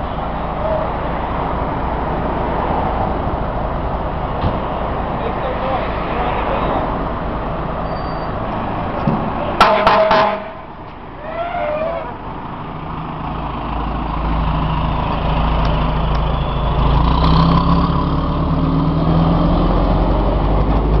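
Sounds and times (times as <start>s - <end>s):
diesel engine rumble: 0.0s - 21.0s.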